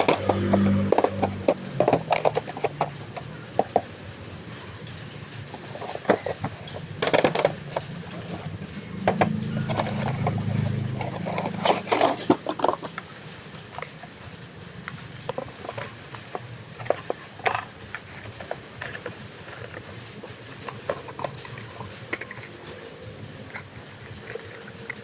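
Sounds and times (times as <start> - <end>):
toy and packaging handled: 0.0 - 25.0.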